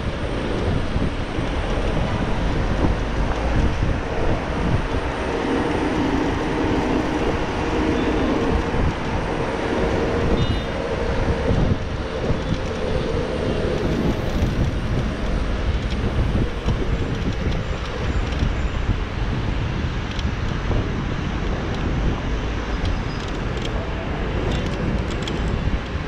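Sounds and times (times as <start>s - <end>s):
car and van engines: 0.0s - 26.0s
wind buffeting microphone: 0.0s - 26.0s.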